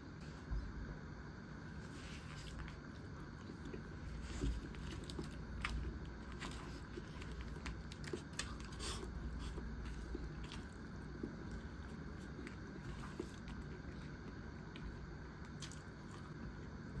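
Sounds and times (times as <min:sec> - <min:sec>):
steady low hum: 0:00.0 - 0:17.0
eating crackles and clicks: 0:02.5 - 0:16.8.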